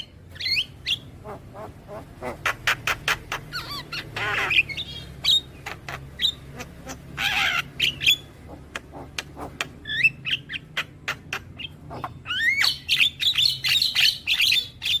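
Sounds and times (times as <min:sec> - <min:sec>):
bird chattering: 0:00.0 - 0:15.0
bird harsh rasp: 0:00.4 - 0:15.0.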